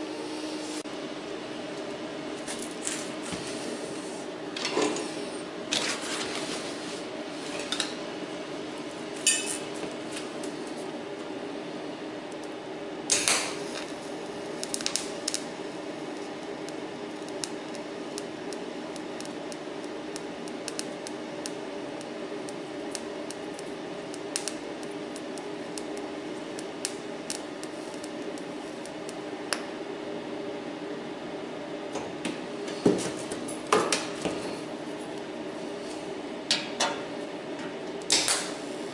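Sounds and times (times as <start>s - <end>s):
welding set humming: 0.0s - 38.9s.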